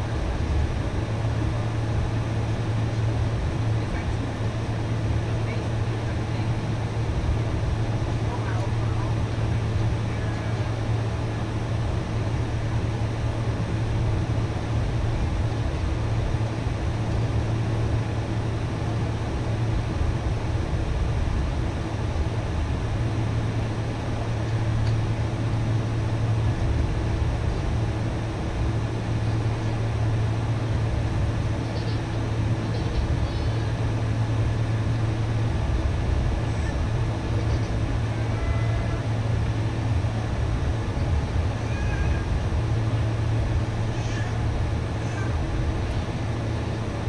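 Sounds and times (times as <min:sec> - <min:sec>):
low engine drone: 0:00.0 - 0:47.0.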